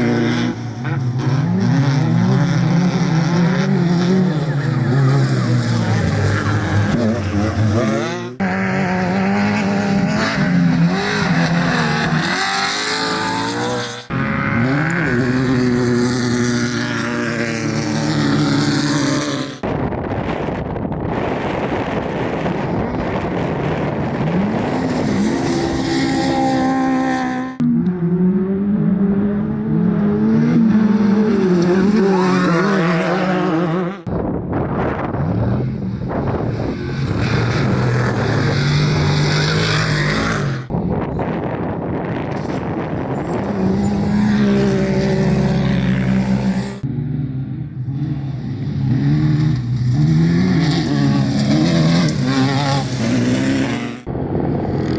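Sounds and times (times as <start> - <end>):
race vehicle engines revving: 0.0 - 54.9.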